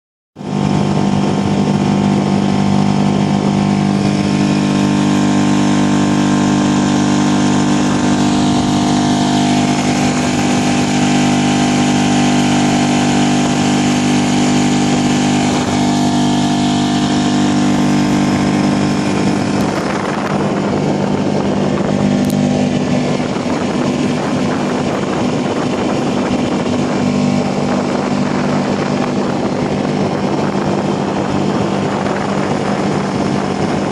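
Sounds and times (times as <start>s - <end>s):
outboard motor running: 0.4s - 33.9s.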